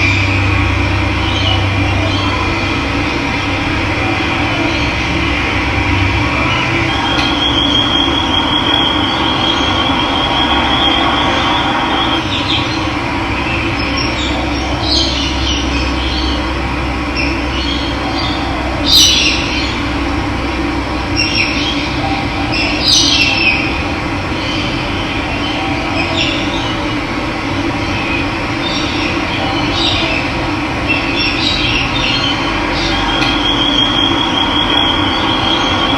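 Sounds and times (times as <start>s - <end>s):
birds calling: 0.0s - 35.9s.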